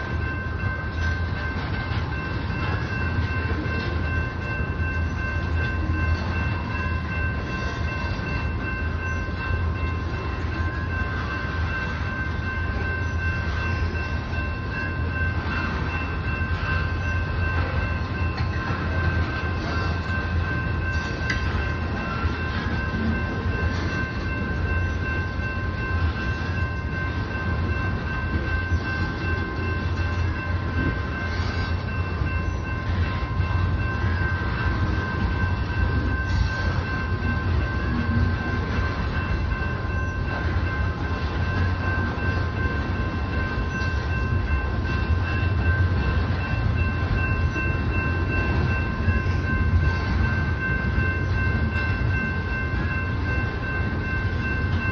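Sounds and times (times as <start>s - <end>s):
high-pitched ringing: 0.0s - 54.9s
train wheels rumbling on rail: 0.0s - 54.9s.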